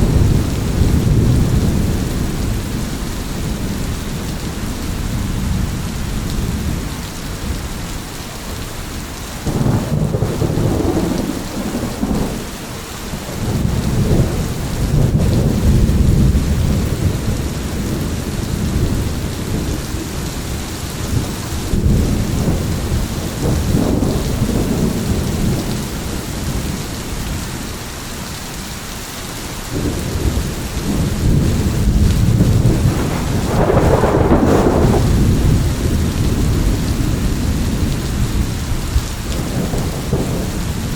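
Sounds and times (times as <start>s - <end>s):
rolling thunder: 0.0s - 8.0s, 8.9s - 27.6s, 29.7s - 40.9s
heavy rain: 0.0s - 40.9s.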